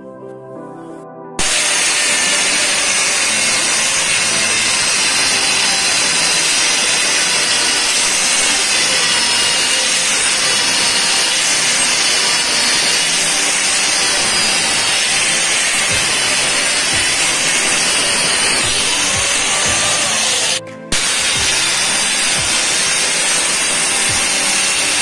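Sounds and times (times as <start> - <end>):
angle grinder cutting iron: 1.4 - 25.0.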